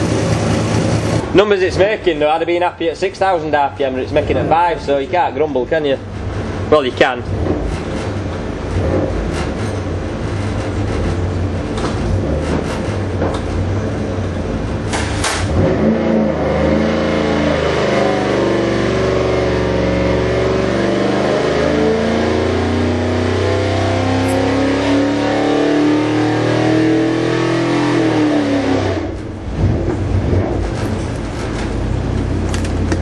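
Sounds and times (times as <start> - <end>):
engine revving on a dyno: 0.0 - 1.4, 7.3 - 32.4.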